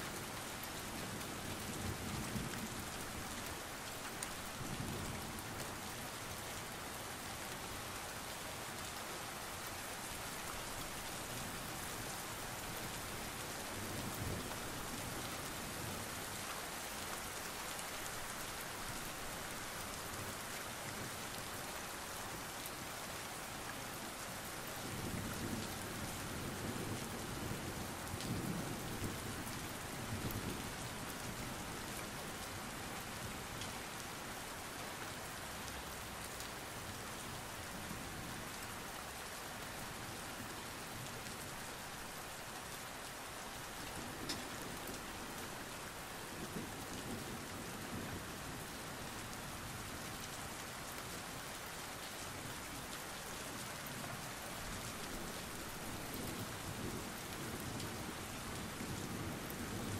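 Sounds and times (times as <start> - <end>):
rain on hard wet surface: 0.0 - 59.9.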